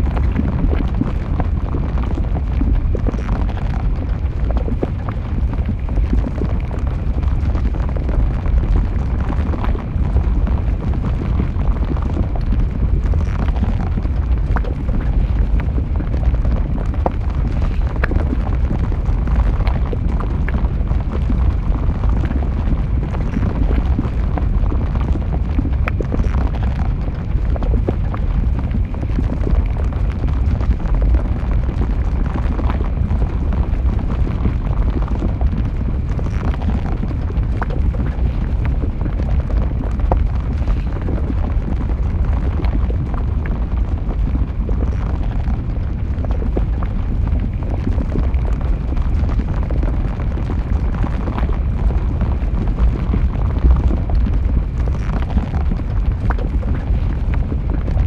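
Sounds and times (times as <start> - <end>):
lava crackles and pops: 0.0 - 58.0
lava deep rumble: 0.0 - 58.0.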